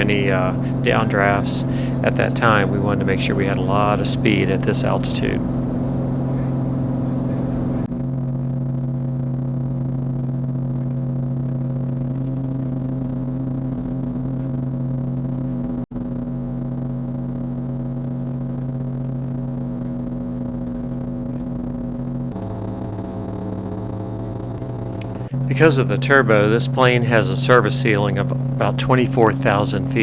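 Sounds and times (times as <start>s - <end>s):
propeller plane engine drone: 0.0s - 30.0s.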